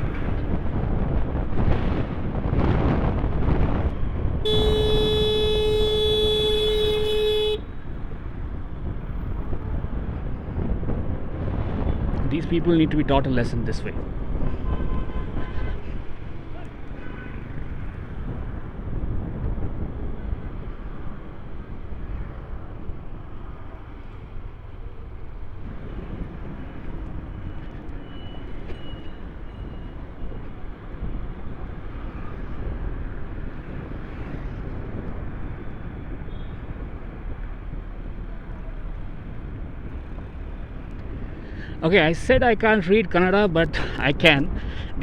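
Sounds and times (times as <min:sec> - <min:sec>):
road noise: 0:00.0 - 0:45.0
wind noise: 0:00.0 - 0:45.0.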